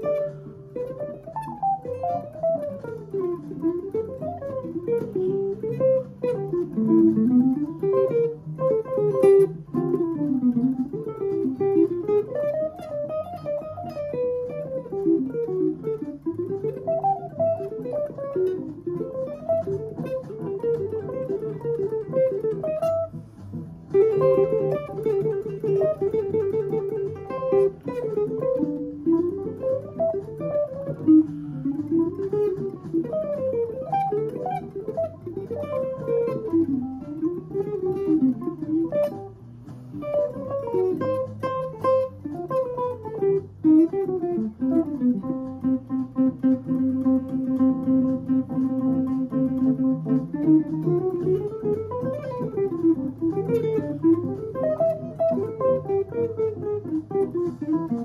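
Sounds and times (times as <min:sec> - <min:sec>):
electric guitar jazz solo: 0:00.0 - 0:58.0.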